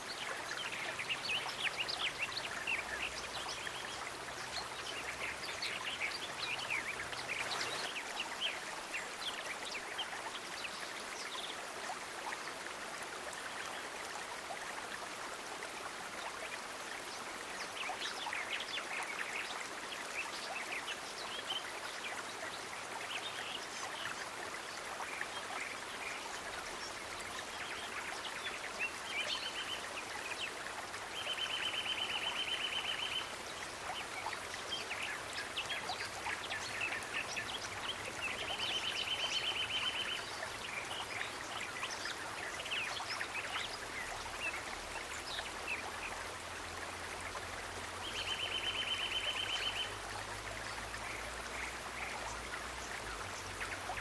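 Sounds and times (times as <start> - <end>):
stream of running water: 0.0 - 54.0.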